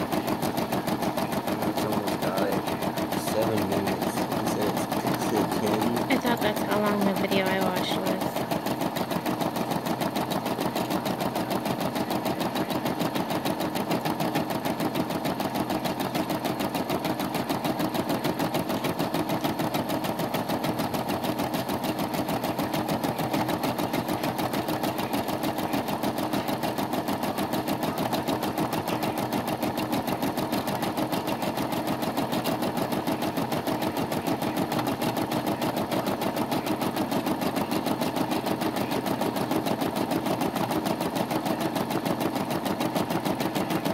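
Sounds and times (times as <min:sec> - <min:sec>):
embroidery machine needle chatter: 0:00.0 - 0:43.9.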